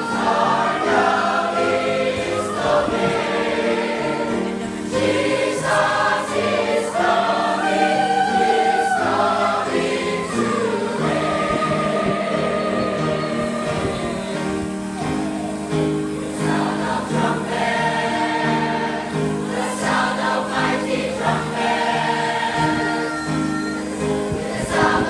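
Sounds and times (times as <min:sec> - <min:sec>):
choir singing in harmony: 0:00.0 - 0:25.0.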